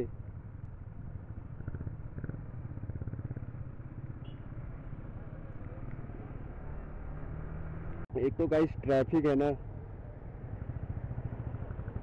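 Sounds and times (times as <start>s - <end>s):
motorcycle engine running: 0.0s - 5.9s, 7.7s - 12.0s.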